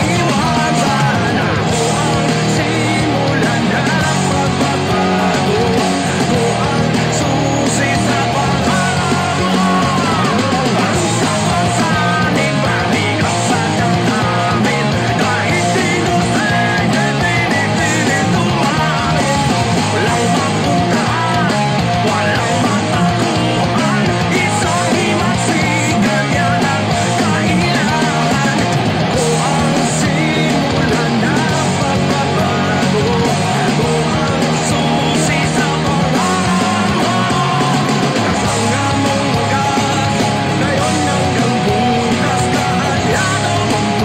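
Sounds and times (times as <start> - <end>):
electric guitar playing along: 0.0 - 44.0
rock band music: 0.0 - 44.0.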